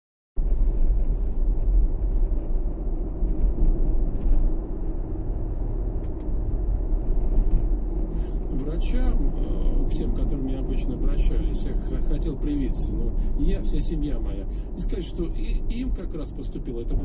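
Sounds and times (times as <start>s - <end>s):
car road noise: 0.4s - 17.0s.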